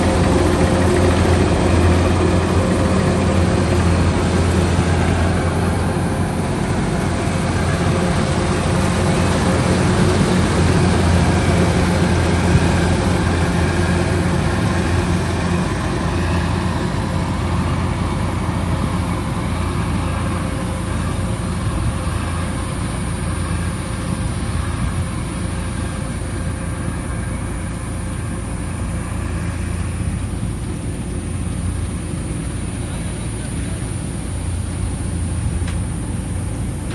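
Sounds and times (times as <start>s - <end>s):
combine harvester diesel engine running: 0.0s - 36.9s.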